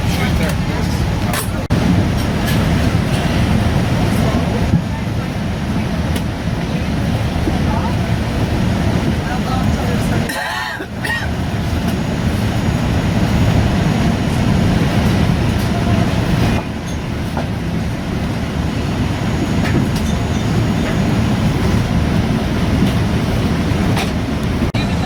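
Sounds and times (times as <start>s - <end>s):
airliner cabin engine hum: 0.0s - 25.0s.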